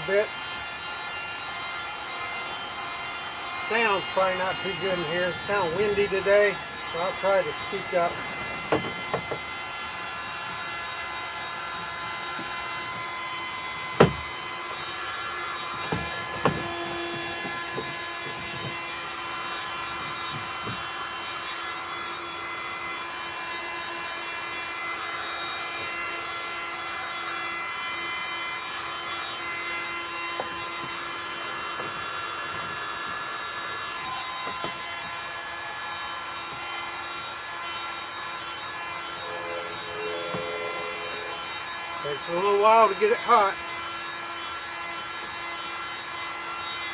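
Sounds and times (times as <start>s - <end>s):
heat gun fan whine: 0.0s - 46.9s.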